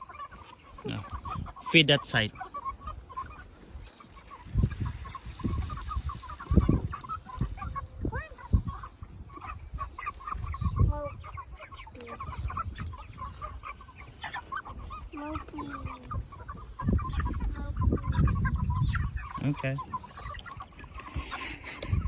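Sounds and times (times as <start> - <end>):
chickens clucking and peeping: 0.0 - 22.0.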